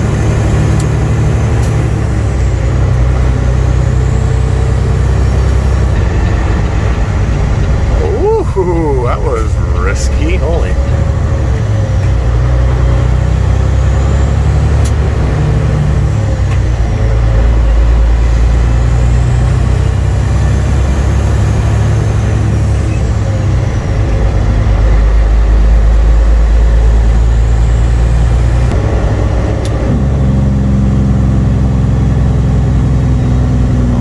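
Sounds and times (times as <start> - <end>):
truck diesel engine drone: 0.0 - 34.0.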